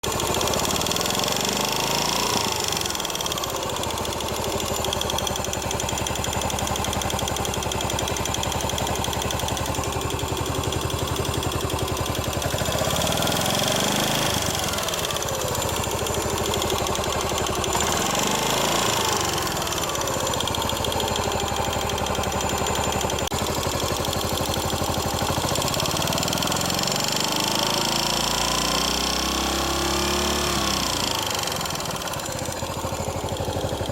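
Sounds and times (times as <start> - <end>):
motorcycle engine idling: 0.0 - 33.9
noise from cylinder head: 0.0 - 33.9.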